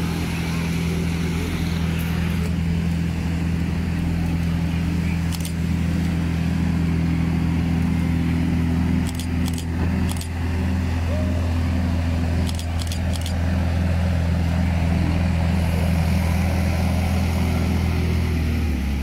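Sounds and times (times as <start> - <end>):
outboard engines droning: 0.0 - 19.0.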